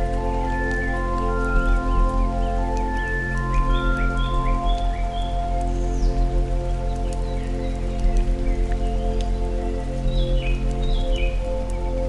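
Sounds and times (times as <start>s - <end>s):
ambient music with drone: 0.0s - 12.0s
faint rain ticks: 0.0s - 12.0s.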